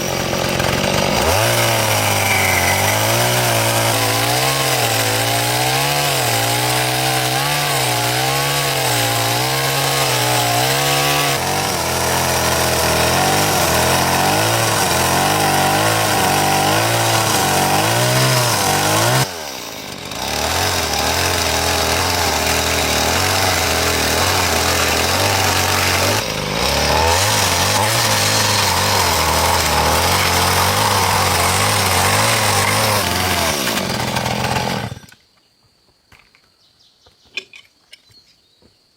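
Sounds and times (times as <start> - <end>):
chainsaw cutting through timber: 0.0 - 35.2.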